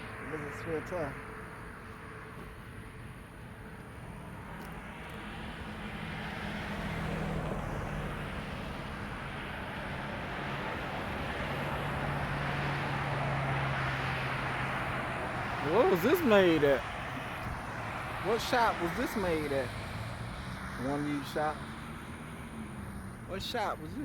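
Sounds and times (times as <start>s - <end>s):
distant engine drone: 0.0s - 24.0s.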